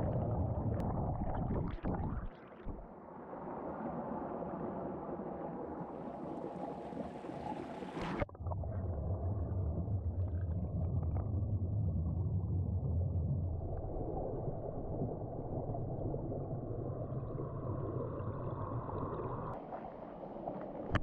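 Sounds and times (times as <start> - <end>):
underwater churning river water: 0.0 - 21.0.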